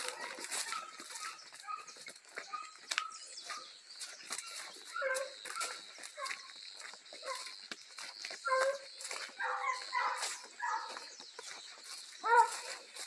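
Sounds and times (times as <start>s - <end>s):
dogs yelping: 0.0s - 13.0s
rustling grass and brush: 0.0s - 13.0s.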